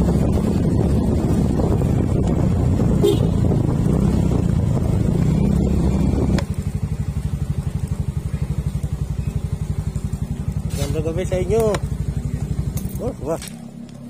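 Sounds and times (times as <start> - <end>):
motorcycle engine: 0.0 - 14.0.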